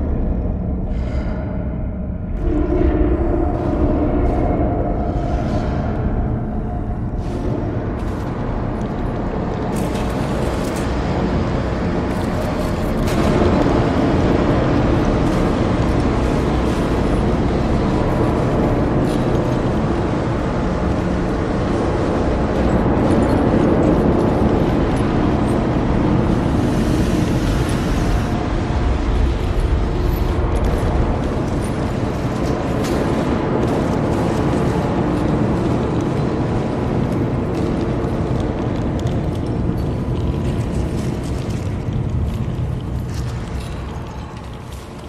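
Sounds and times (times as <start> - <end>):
rumble of collapsing rock: 7.2 - 45.0.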